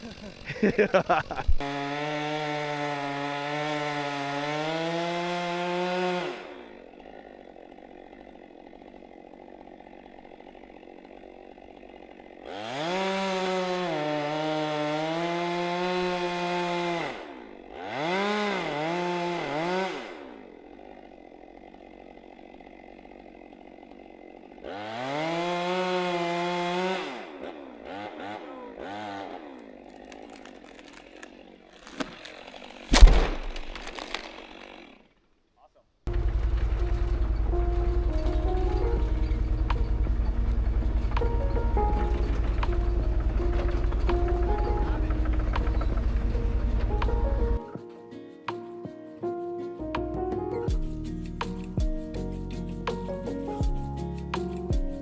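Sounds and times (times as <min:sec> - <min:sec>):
chainsaw revving: 0:00.0 - 0:35.2, 0:36.1 - 0:47.6.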